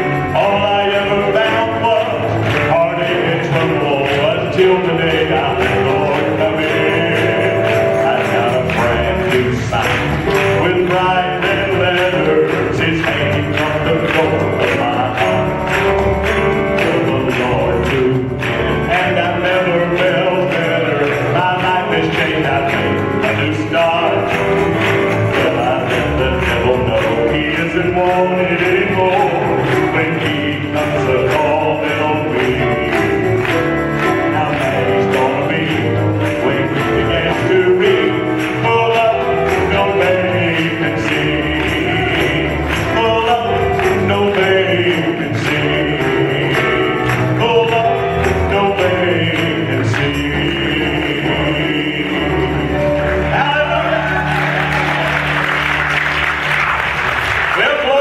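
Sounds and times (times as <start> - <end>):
church band playing gospel song: 0.0 - 58.0
tambourine jingling: 0.0 - 58.0.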